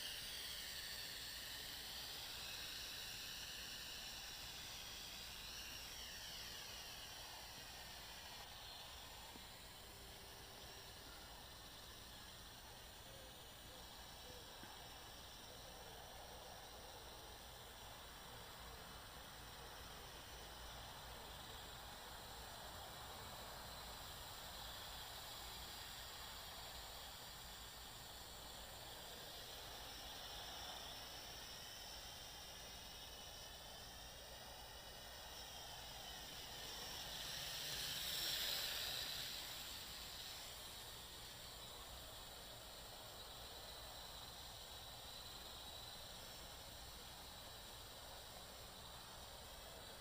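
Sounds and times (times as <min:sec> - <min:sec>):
faint steady hiss: 0:00.0 - 0:50.0
toy quadcopter motors whining: 0:00.0 - 0:50.0.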